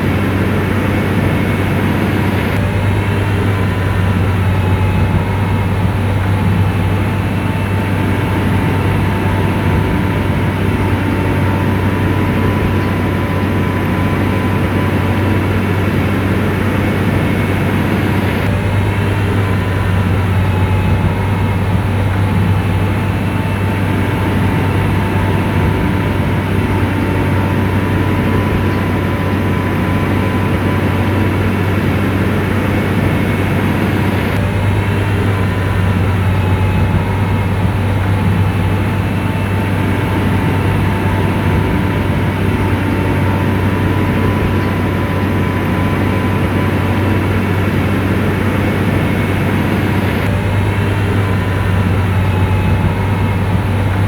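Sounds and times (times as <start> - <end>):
diesel engine deep hum: 0.0 - 54.0
high whine: 0.0 - 54.0.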